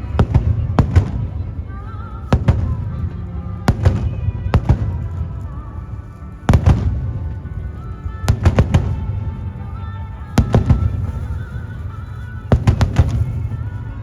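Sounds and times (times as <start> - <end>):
fireworks exploding: 0.0 - 14.0
low rumble: 0.0 - 14.0
music: 0.0 - 14.0.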